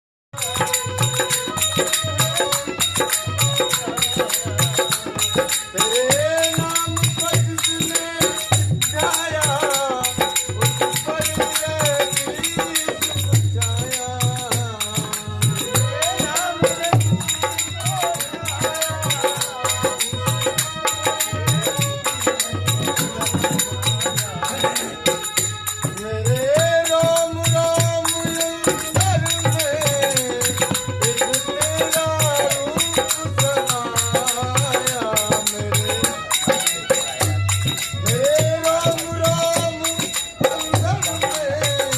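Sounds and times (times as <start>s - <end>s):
devotional song melody: 0.4s - 41.9s.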